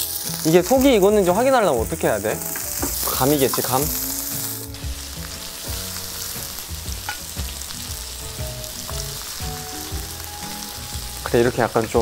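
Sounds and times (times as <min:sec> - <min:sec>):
oil sizzling on a griddle: 0:00.0 - 0:12.0.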